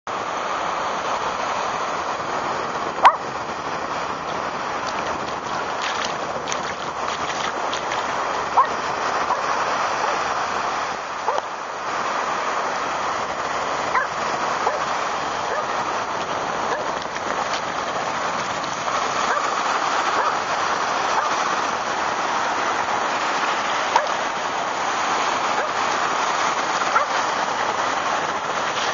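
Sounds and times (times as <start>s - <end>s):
waves breaking on beach: 0.1s - 28.9s.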